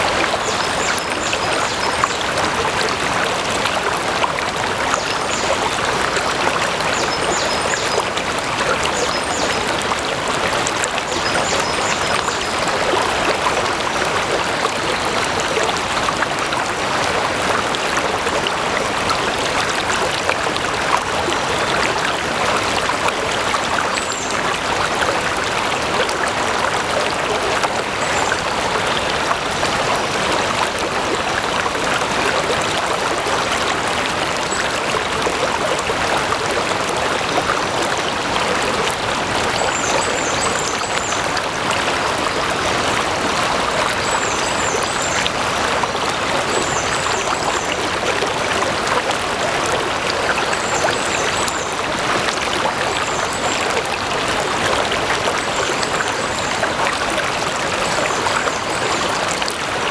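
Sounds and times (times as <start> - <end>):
stream of water flowing: 0.0 - 59.9.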